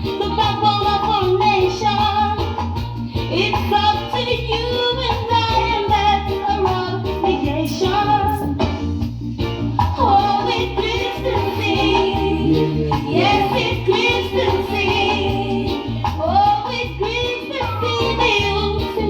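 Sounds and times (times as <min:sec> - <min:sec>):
pulsing bass line: 0:00.0 - 0:19.0
reggae song with singing: 0:00.0 - 0:19.0.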